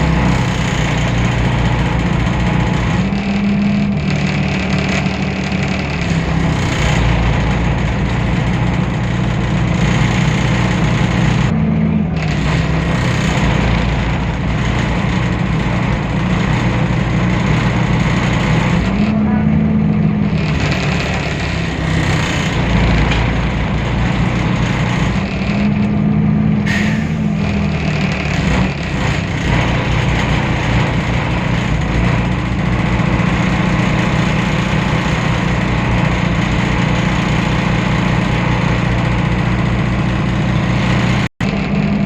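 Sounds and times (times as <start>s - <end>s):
bus diesel engine drone: 0.0s - 42.0s.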